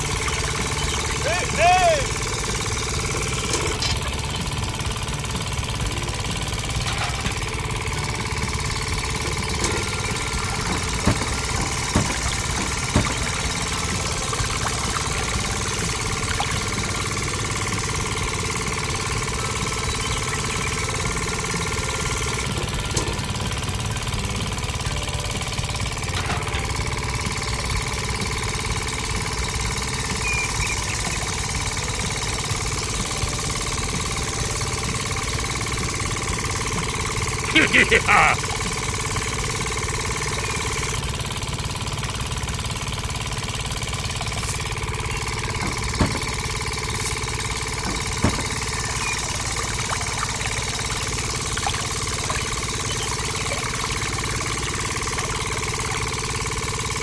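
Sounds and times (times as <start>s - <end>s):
small motor knocking rattle: 0.0s - 57.0s.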